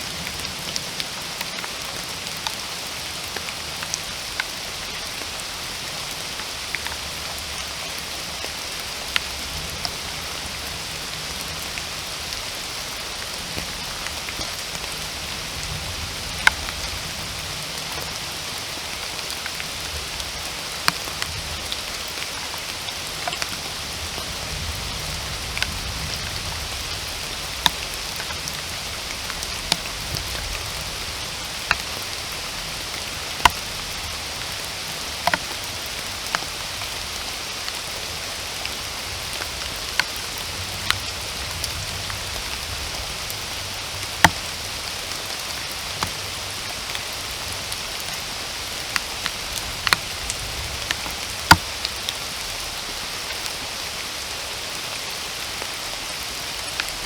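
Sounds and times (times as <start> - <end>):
rain hissing: 0.0 - 57.0
raindrops ticking close by: 0.0 - 57.0.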